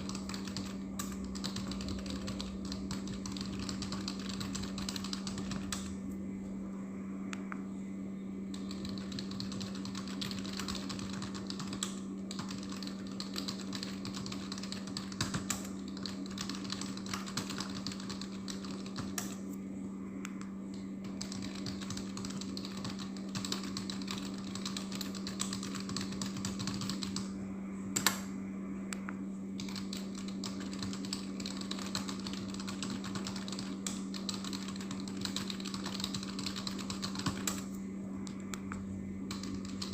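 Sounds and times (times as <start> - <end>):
keyboard typing: 0.0 - 6.0, 8.5 - 19.4, 20.7 - 27.3, 29.6 - 37.7, 39.3 - 39.9
steady low hum: 0.0 - 39.9.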